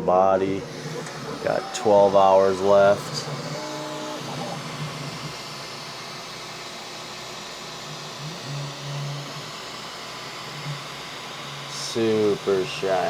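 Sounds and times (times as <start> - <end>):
three-d printer fan whir: 0.0 - 13.0.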